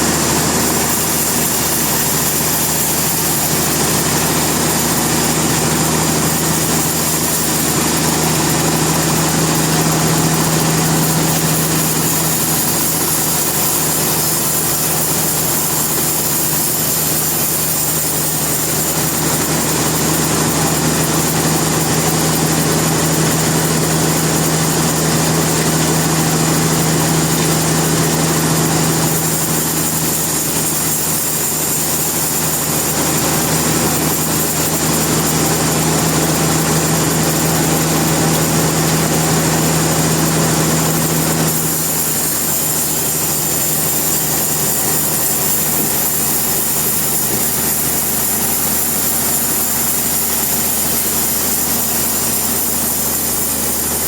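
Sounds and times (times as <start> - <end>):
loud motor hum: 0.0 - 54.0
sawmill machinery running: 0.0 - 54.0.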